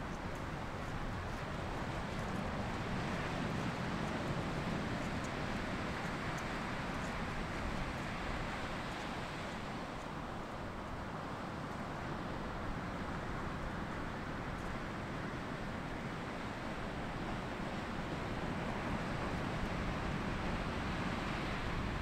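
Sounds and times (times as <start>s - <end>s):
ocean surf washing on beach: 0.0s - 22.0s.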